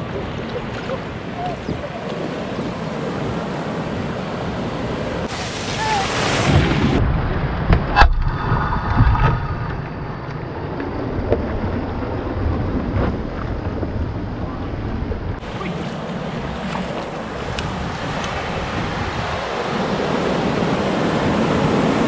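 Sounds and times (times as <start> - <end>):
waves and rushing water: 0.0 - 22.0
wind buffeting microphone: 0.0 - 22.0.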